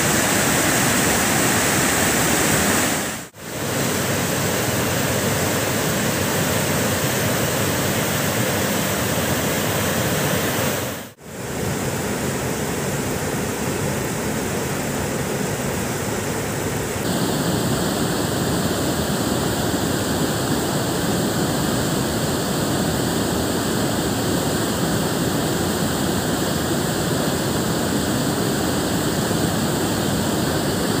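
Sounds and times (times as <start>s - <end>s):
water rushing over waterfall: 0.0s - 31.0s.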